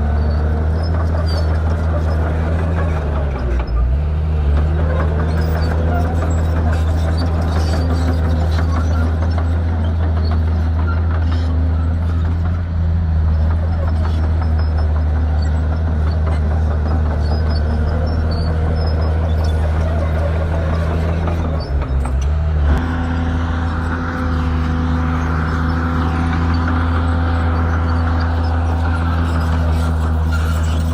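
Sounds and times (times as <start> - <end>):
bulldozer diesel engine droning: 0.0 - 30.9.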